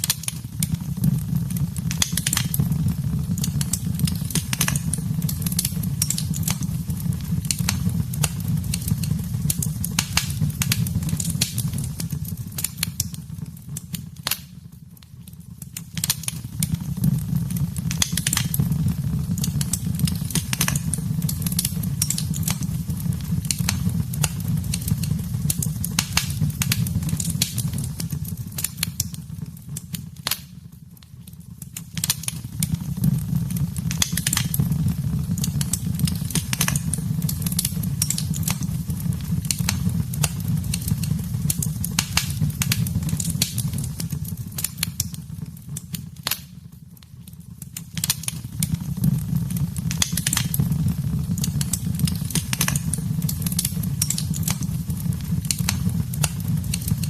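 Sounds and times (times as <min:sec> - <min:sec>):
fire pops and snaps: 0:00.0 - 0:57.0
flames rumbling: 0:00.0 - 0:57.0.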